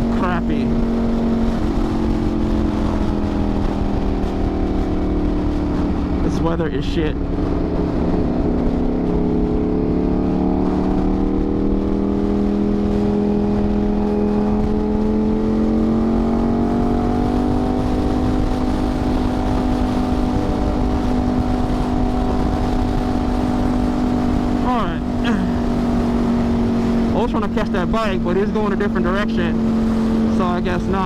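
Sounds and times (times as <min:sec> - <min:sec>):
low wind rumble: 0:00.0 - 0:31.0
motorcycle engine running: 0:00.0 - 0:31.0.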